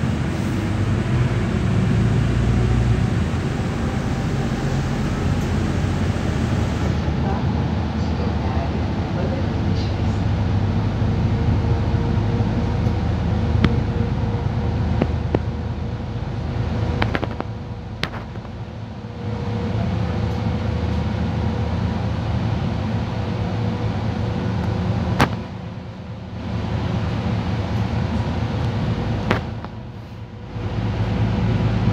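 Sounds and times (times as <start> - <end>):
bus engine drone: 0.0 - 31.9
road noise: 0.0 - 31.9.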